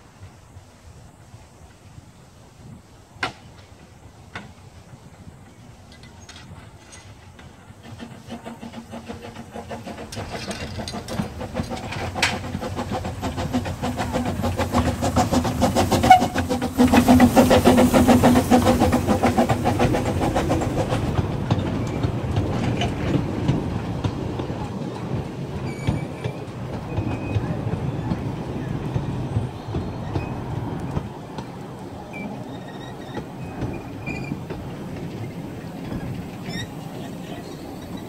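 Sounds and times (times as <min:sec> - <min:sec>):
steam locomotive passing: 0:00.0 - 0:38.0
carriages rattling on rails: 0:01.6 - 0:38.0.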